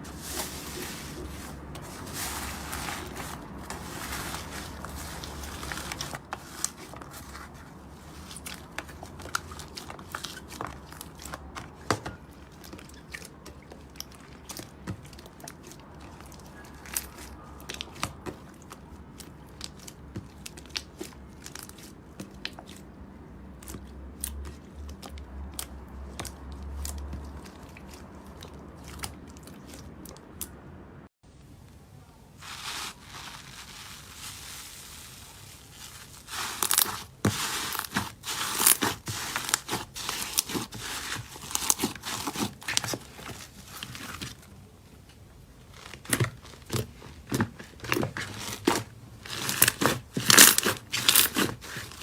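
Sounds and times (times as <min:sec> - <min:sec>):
hands squeezing slime: 0:00.0 - 0:30.5, 0:32.4 - 0:44.5, 0:45.7 - 0:52.0.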